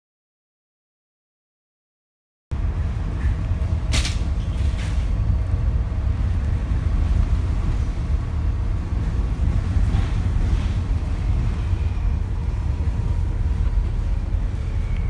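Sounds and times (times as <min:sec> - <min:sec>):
low rumble: 0:02.5 - 0:15.0.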